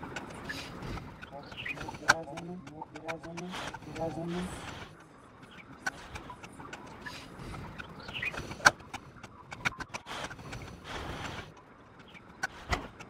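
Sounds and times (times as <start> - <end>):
electronic clicks and crackles: 0.0 - 13.0.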